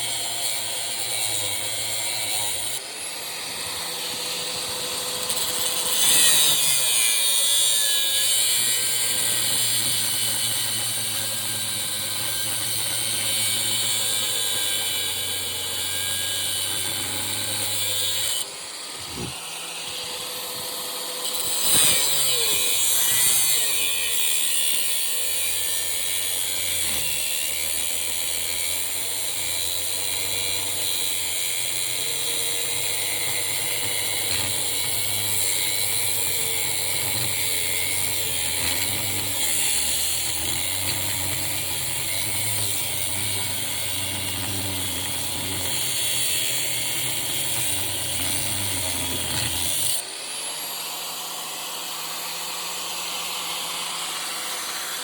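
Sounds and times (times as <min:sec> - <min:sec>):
angle grinder cutting metal: 0:00.0 - 0:55.0.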